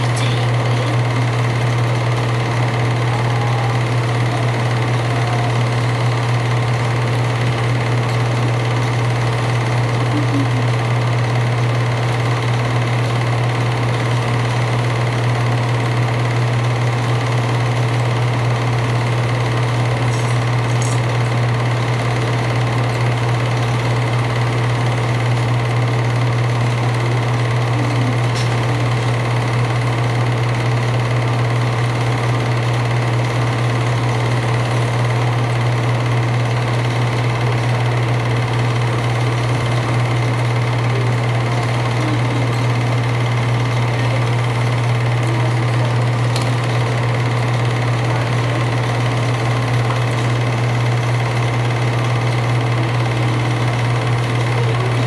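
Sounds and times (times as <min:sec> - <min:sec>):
film projector whirring and clattering: 0:00.0 - 0:55.0.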